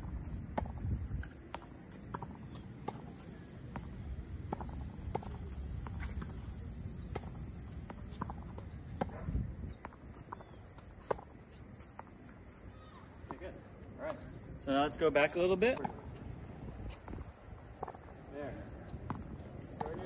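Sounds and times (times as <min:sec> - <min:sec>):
high insect hum: 0:00.0 - 0:20.0
balls bouncing on hard court: 0:00.2 - 0:14.2, 0:14.9 - 0:16.2, 0:16.9 - 0:20.0
tennis balls struck with rackets: 0:00.5 - 0:12.3, 0:14.9 - 0:16.2, 0:16.8 - 0:20.0.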